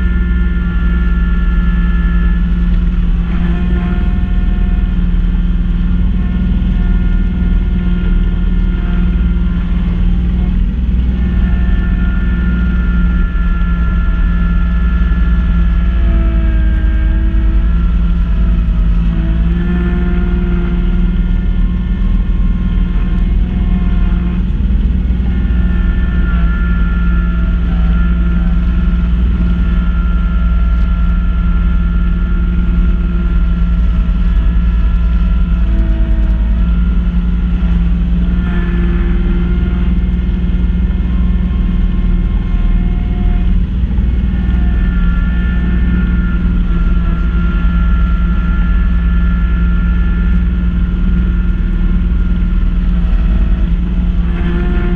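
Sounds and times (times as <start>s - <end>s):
snow blower whine: 0.0s - 54.9s
tractor diesel engine running: 0.0s - 54.9s.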